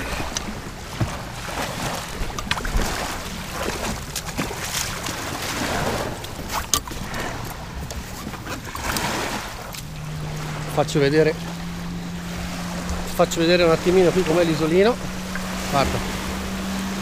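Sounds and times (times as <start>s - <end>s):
water washing: 0.0s - 17.0s
wind: 0.0s - 17.0s.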